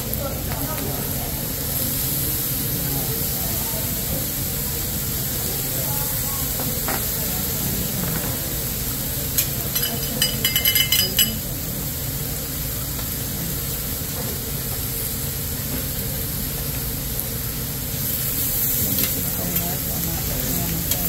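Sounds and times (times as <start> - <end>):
food sizzling on griddle: 0.0 - 21.0
restaurant noise: 0.0 - 21.0.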